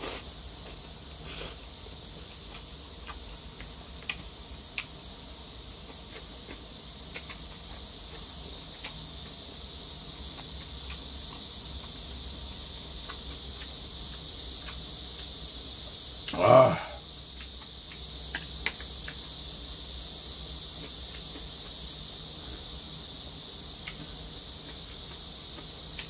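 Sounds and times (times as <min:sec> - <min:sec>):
man chewing noodles: 0:00.0 - 0:26.0
steady high hiss: 0:00.0 - 0:26.0.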